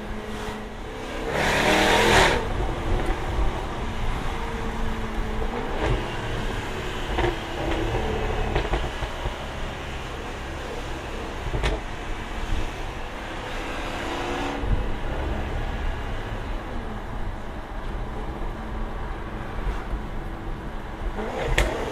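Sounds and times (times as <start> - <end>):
car engine and exhaust accelerating: 0.0 - 21.9
road noise hiss: 0.0 - 21.9.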